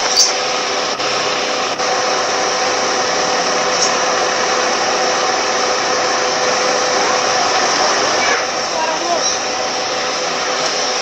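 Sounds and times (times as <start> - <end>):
air conditioning fan rushing: 0.0 - 11.0.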